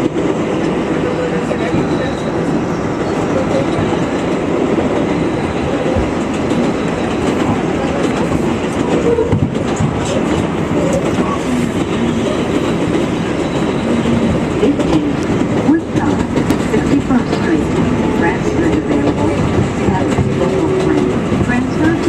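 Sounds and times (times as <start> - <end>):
train wheels rumbling on rail: 0.0 - 22.0
clickety-clack over rail joints: 3.4 - 22.0.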